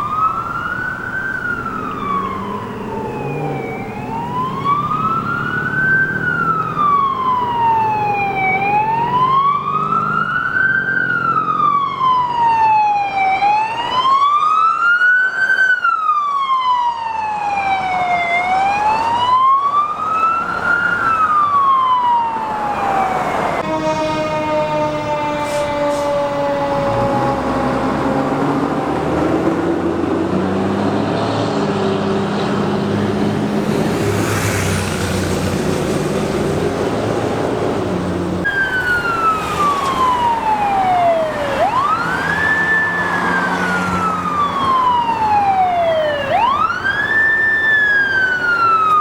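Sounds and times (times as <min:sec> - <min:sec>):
emergency siren wailing: 0:00.0 - 0:49.0
steady siren tone dropping in pitch: 0:00.0 - 0:49.0.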